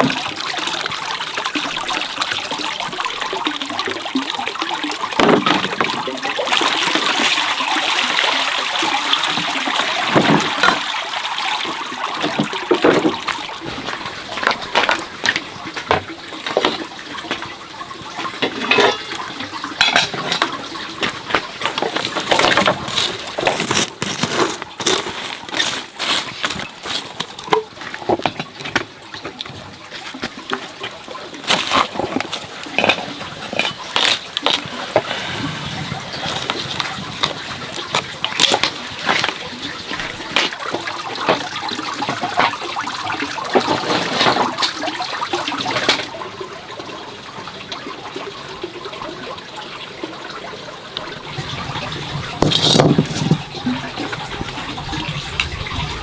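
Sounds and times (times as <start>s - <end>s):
objects splashing in water: 0.0s - 46.4s, 51.0s - 56.0s
water running: 0.0s - 56.0s.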